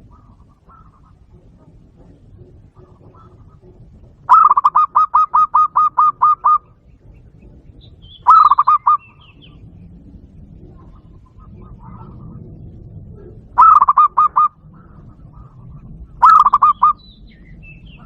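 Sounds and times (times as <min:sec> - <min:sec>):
dove cooing through speaker: 0:00.0 - 0:18.0.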